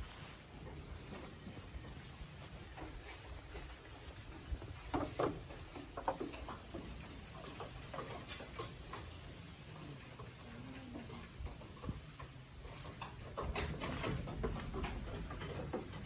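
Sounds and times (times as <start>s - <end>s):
goats tapping and knocking: 0.1s - 16.0s.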